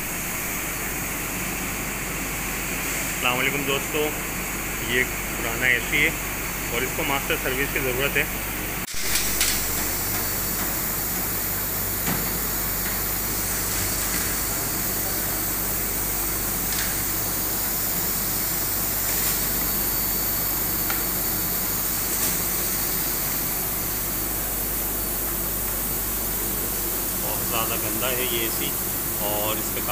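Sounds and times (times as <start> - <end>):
whooshing machine noise: 0.0 - 29.9.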